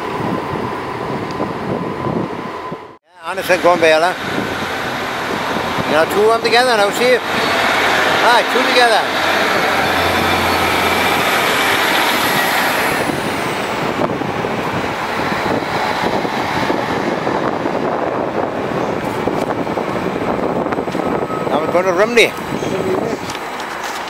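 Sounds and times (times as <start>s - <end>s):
trains rumbling on rails: 0.0s - 24.0s.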